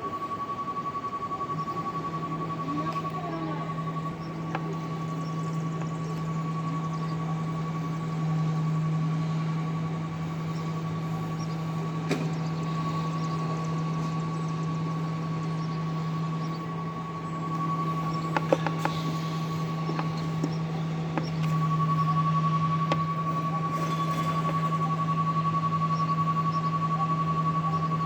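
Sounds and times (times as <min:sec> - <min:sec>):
truck engine humming: 0:00.0 - 0:28.0.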